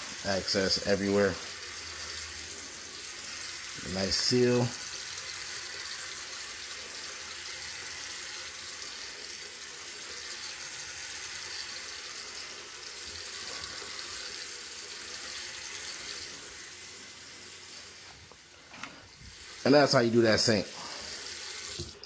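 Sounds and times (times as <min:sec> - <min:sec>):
faucet running into sink: 0:00.0 - 0:22.0.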